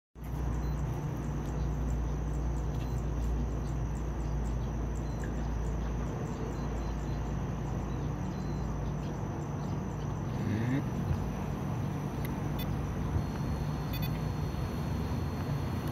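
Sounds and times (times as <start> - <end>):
constant low rumble: 0.2 - 15.9.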